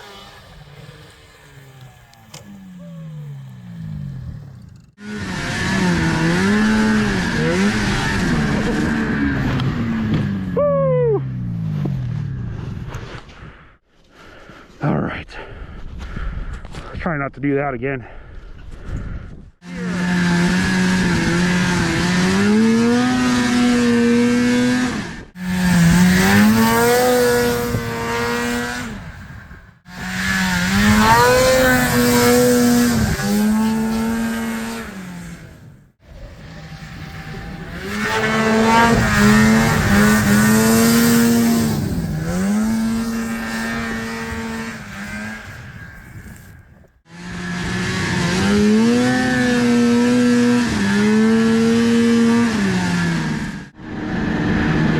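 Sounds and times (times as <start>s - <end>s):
snowmobile engine revving high: 0.0s - 12.6s, 19.6s - 54.9s.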